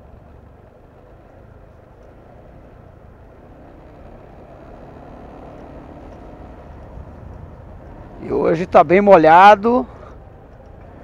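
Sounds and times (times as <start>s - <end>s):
faint motorcycle engine hum: 0.0s - 11.0s
wind and road noise rumble: 0.0s - 11.0s.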